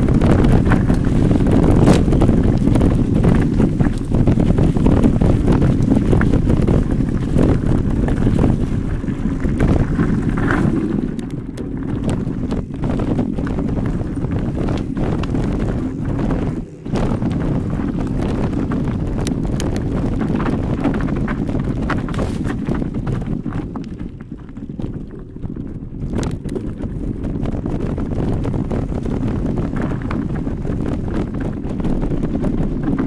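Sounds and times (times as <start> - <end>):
bike knocking and rattling: 0.0 - 33.0
wind on microphone: 0.0 - 33.0.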